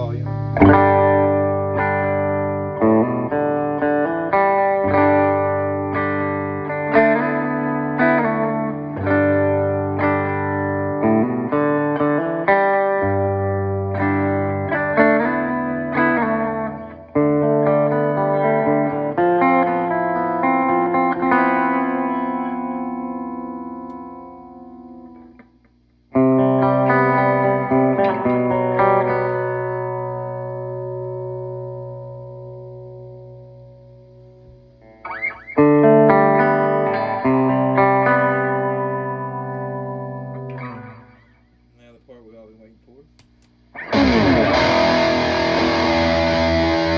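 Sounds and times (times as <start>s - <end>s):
clean electric guitar chords: 0.0s - 41.3s, 43.8s - 46.9s.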